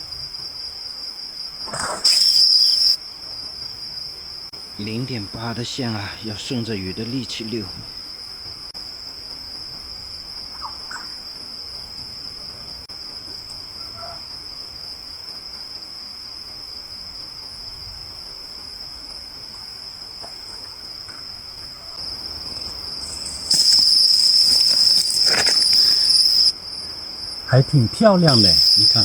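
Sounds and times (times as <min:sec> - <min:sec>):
crickets and insects chirping: 0:00.0 - 0:29.0.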